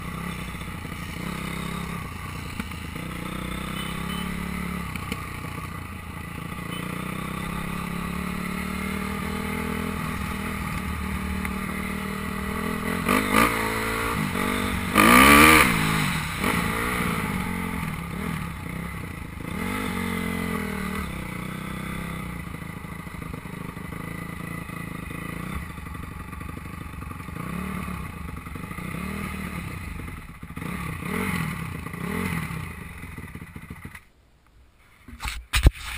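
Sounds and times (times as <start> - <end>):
motorbike engine revving: 0.0 - 34.0.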